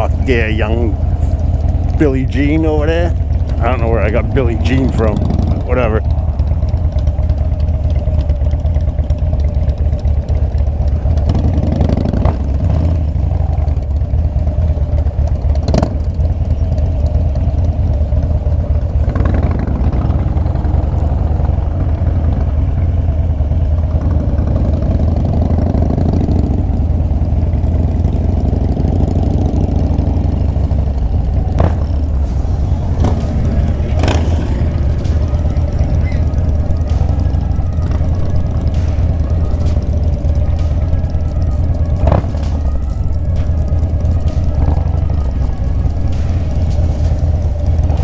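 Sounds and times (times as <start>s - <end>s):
motorcycle engine idling: 0.0s - 48.0s.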